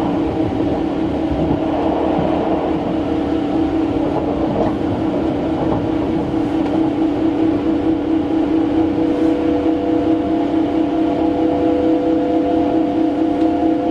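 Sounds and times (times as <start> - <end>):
even train hum: 0.0 - 13.9
train low rumble: 0.0 - 13.9.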